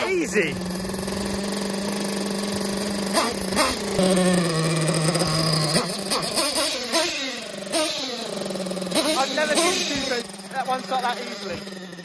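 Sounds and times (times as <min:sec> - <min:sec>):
engine revving blips: 0:00.0 - 0:12.0
nitro engine idling: 0:00.0 - 0:12.0.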